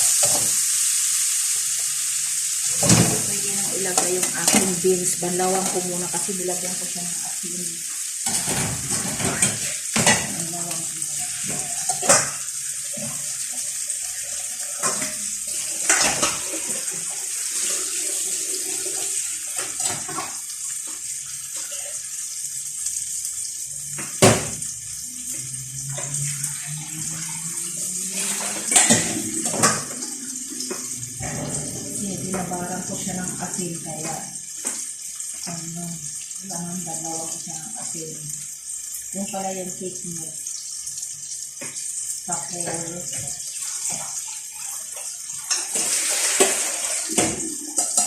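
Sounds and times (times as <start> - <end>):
tap water running: 0.0 - 48.0.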